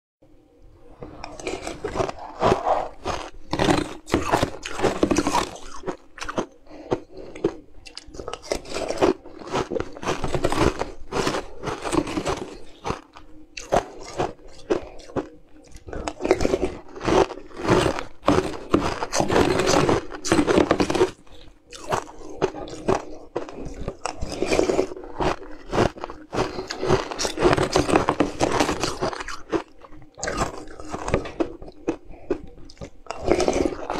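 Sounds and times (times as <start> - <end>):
ice crunching and chewing: 0.9 - 33.9.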